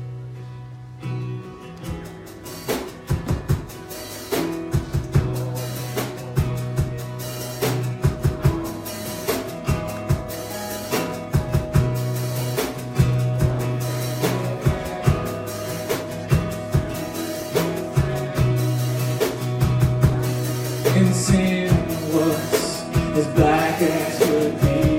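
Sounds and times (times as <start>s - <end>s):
live band playing: 1.1s - 24.9s
drum kit kick and snare: 1.9s - 24.9s.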